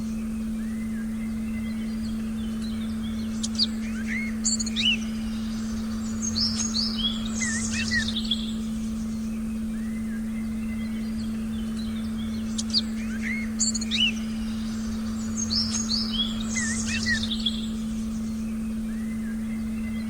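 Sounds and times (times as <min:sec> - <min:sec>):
forest birds chirping: 0:00.0 - 0:20.0
low drone tone: 0:00.0 - 0:20.0.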